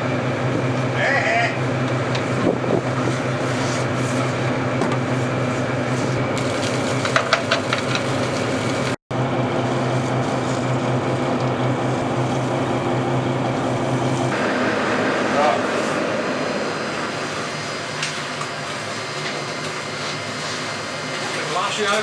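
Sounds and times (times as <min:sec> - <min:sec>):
boat engine humming: 0:00.0 - 0:21.8.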